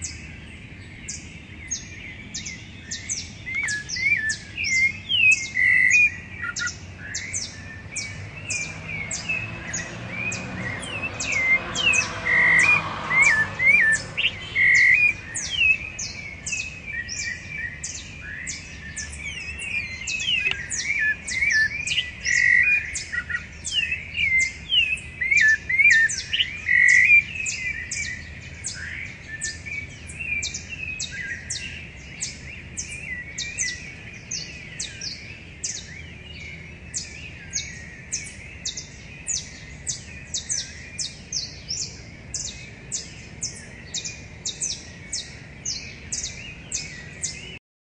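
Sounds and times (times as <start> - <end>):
thrushes singing: 0.0 - 47.6.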